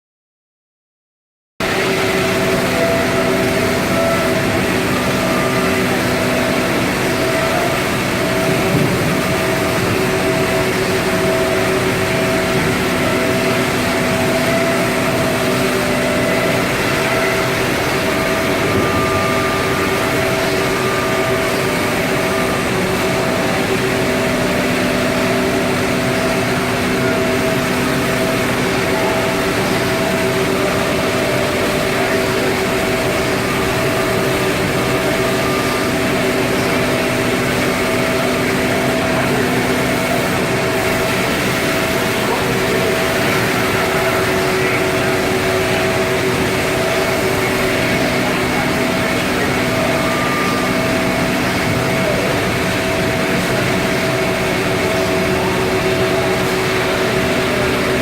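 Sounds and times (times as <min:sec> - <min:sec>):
cnc router running: 0:01.6 - 0:58.0.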